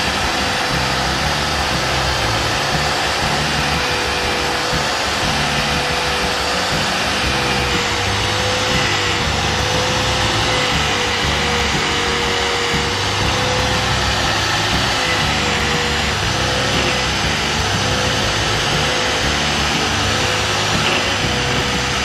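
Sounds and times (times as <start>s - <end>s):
abrasive disc grinding metal: 0.0s - 22.0s
power tool motor whirring: 0.0s - 22.0s.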